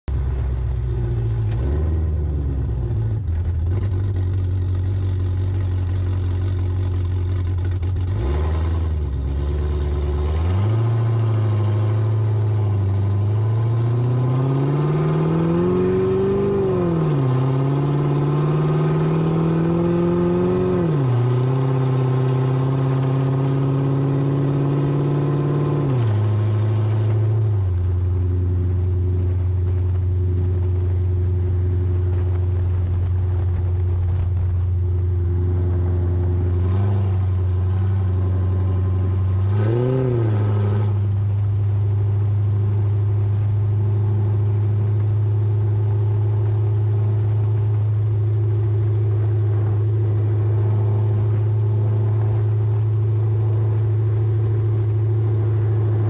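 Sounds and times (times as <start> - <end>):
car engine droning under load: 0.0 - 56.0
road and wind noise: 0.1 - 56.0.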